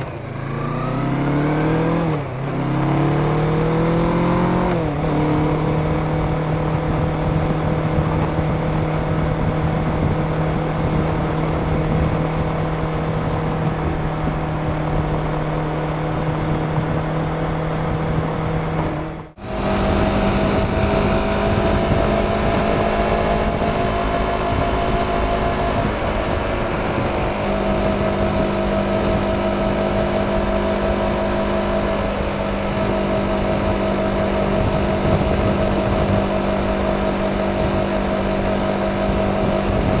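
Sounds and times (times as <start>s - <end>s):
motorcycle engine cruising: 0.0s - 40.0s
road noise: 0.0s - 40.0s
wind rushing: 0.0s - 40.0s.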